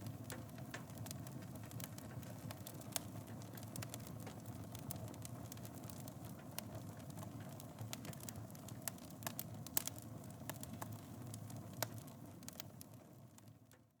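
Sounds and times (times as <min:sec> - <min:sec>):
fire flames rumbling: 0:00.0 - 0:13.6
fire crackling and popping: 0:00.0 - 0:13.9.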